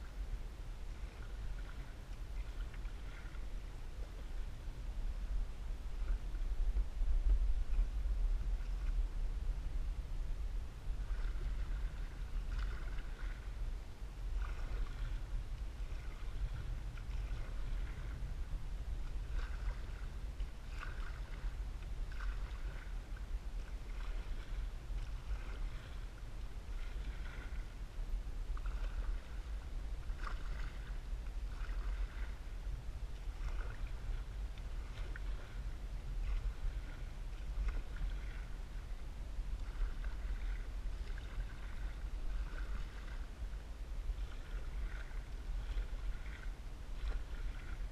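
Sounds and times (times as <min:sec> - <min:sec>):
paddle strokes and water splashing: 0:00.0 - 0:47.9
steady low rumble: 0:00.0 - 0:47.9.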